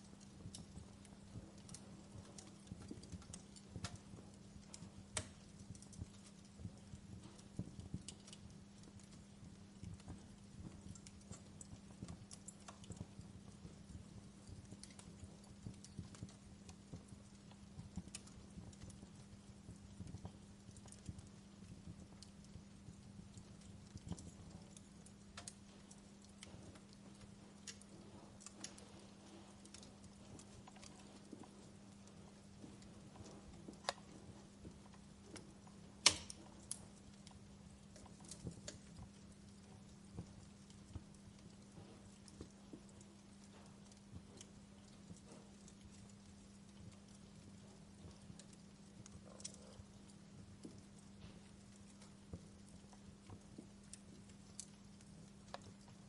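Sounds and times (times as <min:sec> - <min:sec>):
faint steady hum: 0:00.0 - 0:56.0
log fire crackling and popping: 0:00.0 - 0:56.0
low rumble of burning: 0:00.0 - 0:56.0.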